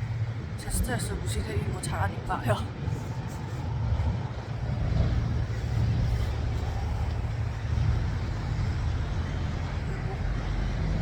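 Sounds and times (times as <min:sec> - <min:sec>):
low vehicle road rumble: 0:00.0 - 0:11.0.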